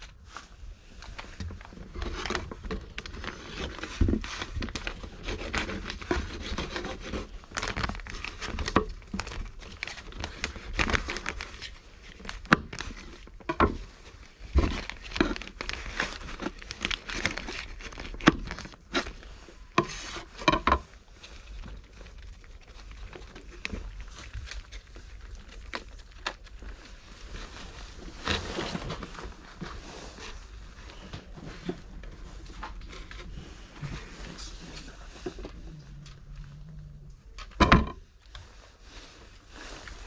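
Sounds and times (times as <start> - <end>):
crackling against microphone: 0.0 - 40.0.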